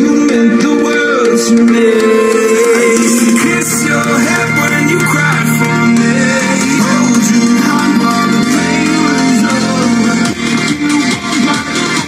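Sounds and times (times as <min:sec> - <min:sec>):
melodic dubstep song with sung vocals: 0:00.0 - 0:12.0.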